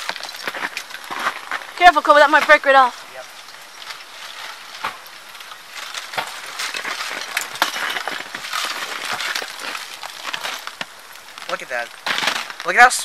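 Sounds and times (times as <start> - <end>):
ice on branches cracking: 0.0 - 13.0.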